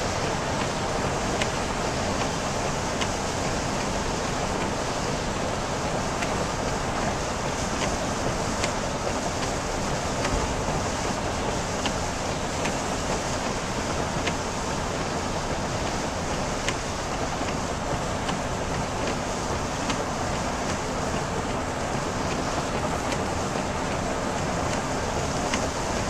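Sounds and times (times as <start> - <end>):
heavy rain and tyre spray: 0.0 - 26.0.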